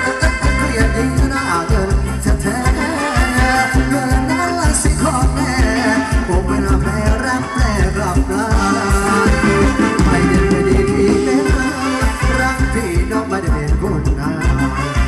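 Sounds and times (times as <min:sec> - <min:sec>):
live band playing dance music: 0:00.0 - 0:15.0
person singing: 0:00.0 - 0:15.0
steady drum beat: 0:00.0 - 0:15.0.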